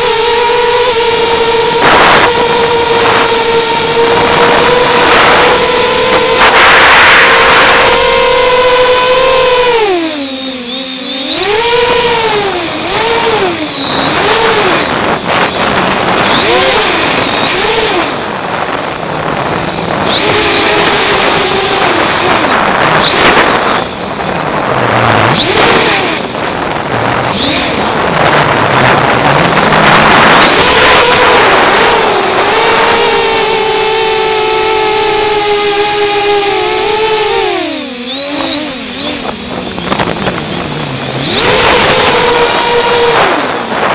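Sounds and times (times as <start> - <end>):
drone motors whining: 0.0 - 43.9
rushing noise: 0.0 - 43.9.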